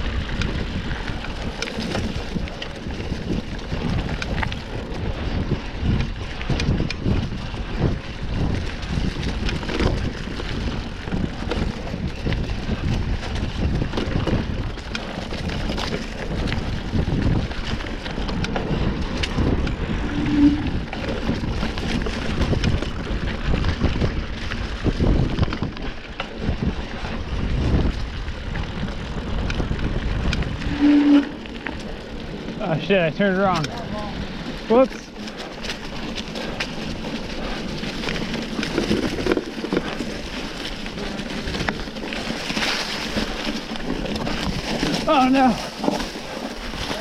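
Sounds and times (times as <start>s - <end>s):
bike rattling over bumps: 0.0s - 47.0s
tyres rolling on dirt: 0.0s - 47.0s
wind rushing over microphone: 0.0s - 47.0s.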